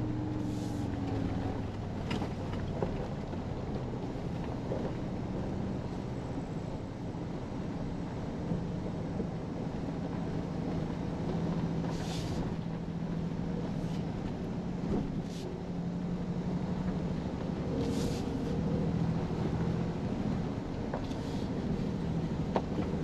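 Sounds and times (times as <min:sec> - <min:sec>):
truck engine drone: 0:00.0 - 0:23.0.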